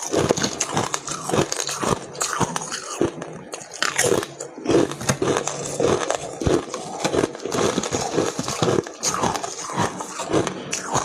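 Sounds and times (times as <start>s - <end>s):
ice being chewed crunching: 0.0s - 11.0s.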